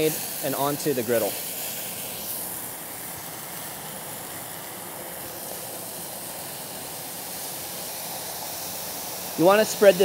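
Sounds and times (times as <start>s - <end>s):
meat sizzling on a griddle: 0.0s - 10.0s.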